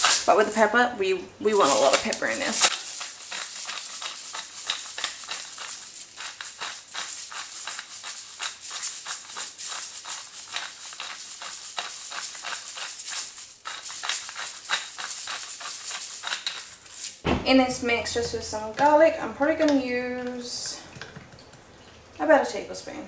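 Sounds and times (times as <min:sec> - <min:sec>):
pepper grinder crackling: 0:00.0 - 0:00.8, 0:01.4 - 0:21.1.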